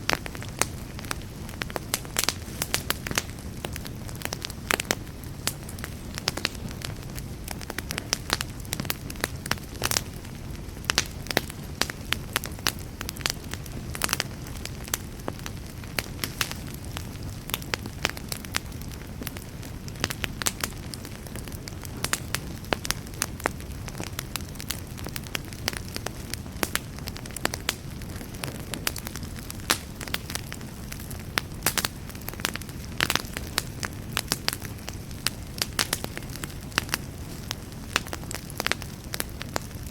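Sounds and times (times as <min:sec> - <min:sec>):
fire crackling and popping: 0:00.0 - 0:39.9
flames rushing: 0:00.0 - 0:39.9.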